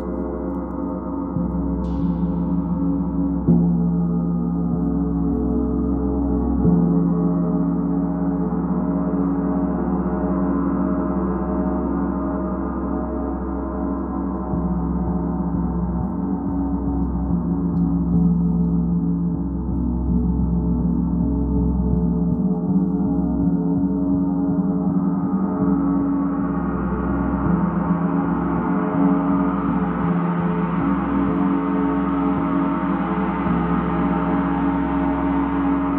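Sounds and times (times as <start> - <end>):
large gong played with mallet: 0.0 - 35.9.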